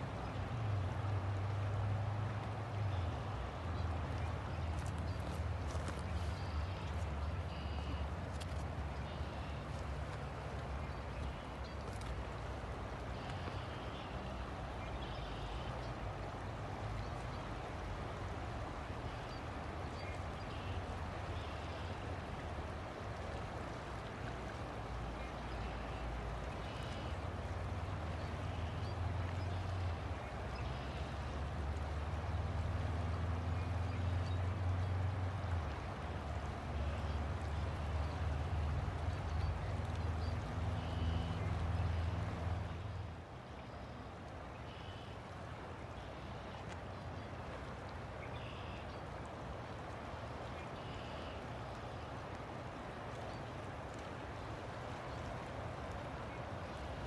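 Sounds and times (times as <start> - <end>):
river water flowing and gurgling: 0.0 - 57.0.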